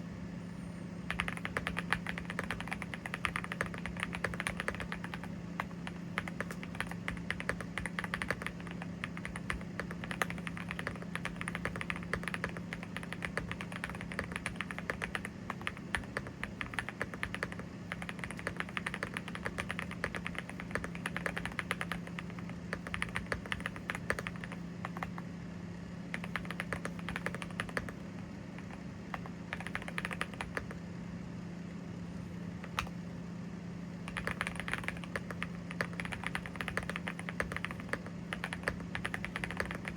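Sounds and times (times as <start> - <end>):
steady low hum: 0.0 - 39.9
mechanical keyboard typing: 1.1 - 25.2, 26.1 - 28.0, 28.6 - 30.8, 32.6 - 32.9, 34.1 - 39.9.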